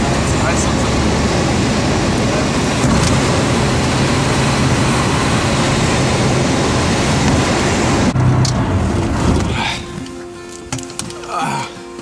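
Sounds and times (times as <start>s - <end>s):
loud steady rushing noise: 0.0s - 10.1s
light aircraft engine droning: 0.0s - 11.1s.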